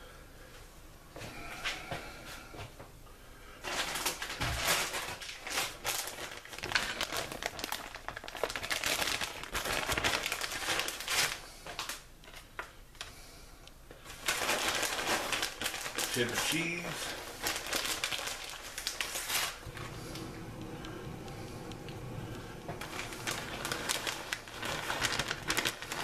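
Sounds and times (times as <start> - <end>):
plastic bag crinkling: 3.6 - 13.2, 14.0 - 26.0.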